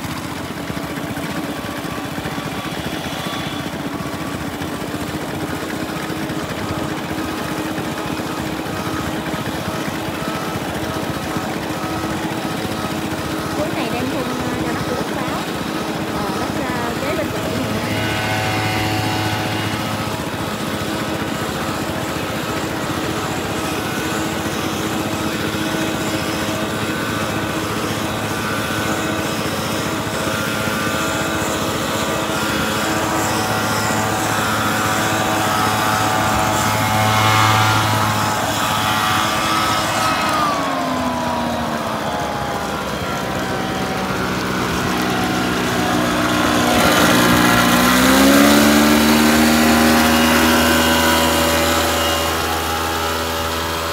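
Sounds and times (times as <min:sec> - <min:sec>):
small two-stroke engine running: 0:00.0 - 0:53.9.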